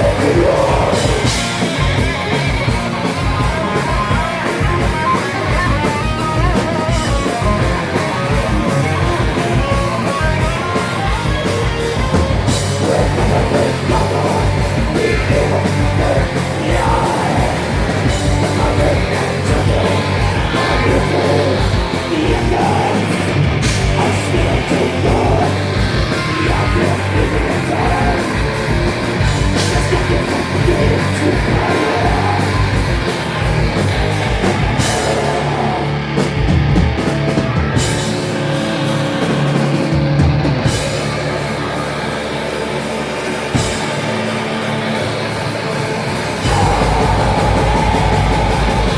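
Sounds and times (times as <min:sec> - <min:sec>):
distorted electric guitars: 0:00.0 - 0:48.9.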